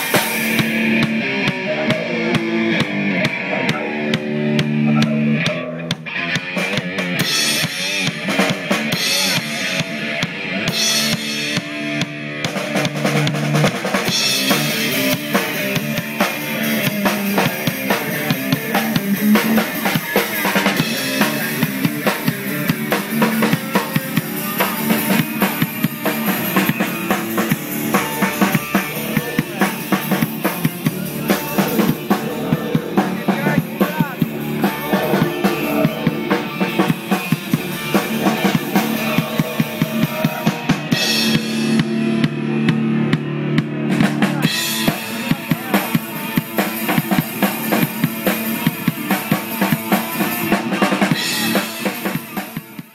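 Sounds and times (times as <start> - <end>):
band music: 0.0 - 52.9
drum kit beat: 0.0 - 52.9.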